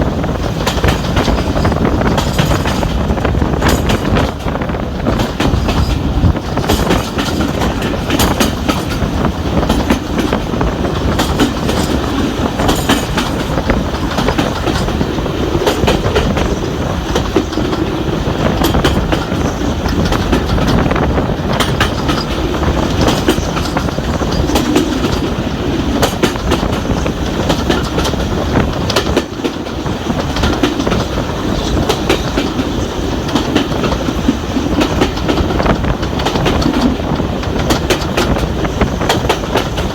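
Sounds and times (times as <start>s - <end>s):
clickety-clack over rail joints: 0.0s - 39.9s
train wheels rumbling on rails: 0.0s - 39.9s.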